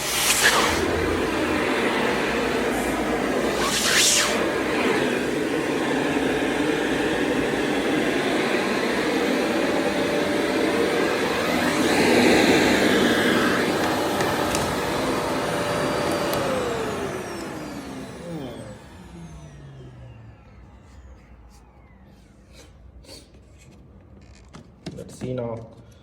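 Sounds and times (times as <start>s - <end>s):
vacuum motor spinning down: 0.0s - 23.0s
vacuum cleaner whining: 0.0s - 24.8s.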